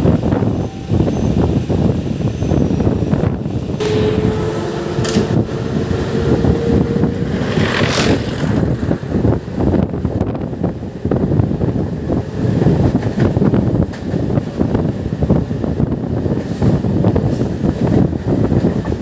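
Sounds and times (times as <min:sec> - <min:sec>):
train wheels clattering on track: 0:02.5 - 0:19.0.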